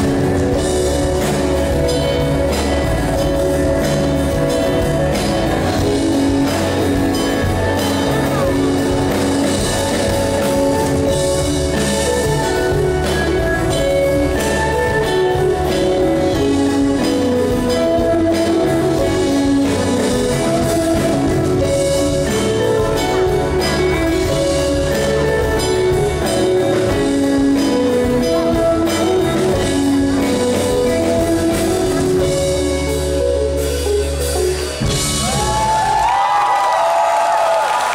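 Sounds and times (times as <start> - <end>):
drum kit: 0.0 - 37.9.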